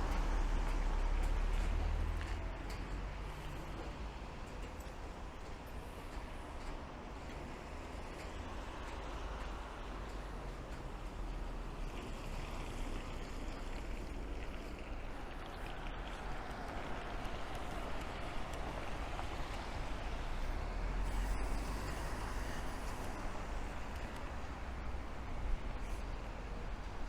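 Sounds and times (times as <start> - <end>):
rain hissing on street: 0.0 - 27.0
vehicle tyres swishing on wet road: 0.0 - 27.0.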